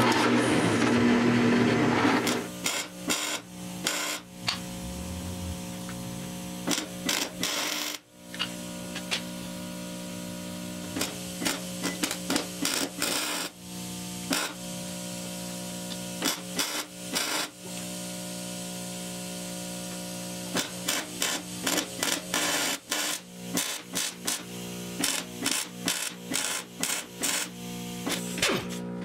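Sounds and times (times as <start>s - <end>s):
steady machine hum: 0.3s - 29.0s.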